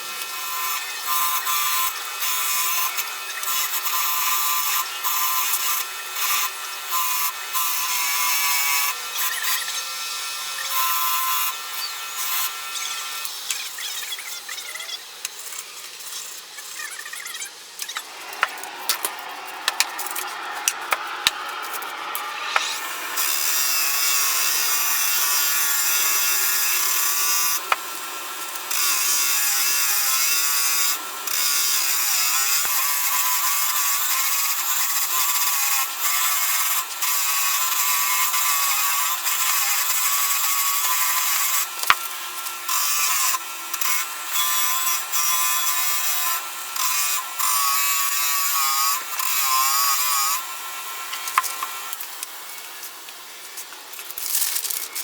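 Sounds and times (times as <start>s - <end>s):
power tool running under load: 0.0s - 16.8s, 17.6s - 55.0s.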